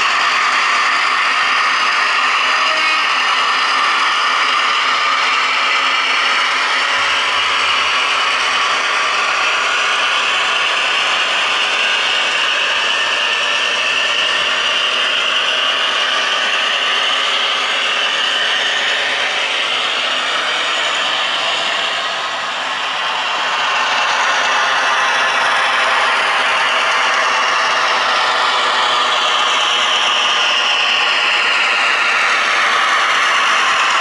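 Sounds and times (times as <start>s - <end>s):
model train whirring on rails: 0.0s - 34.0s.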